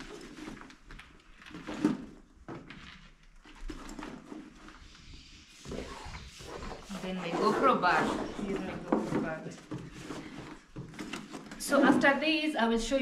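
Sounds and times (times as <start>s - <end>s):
rustling: 0.0s - 12.1s.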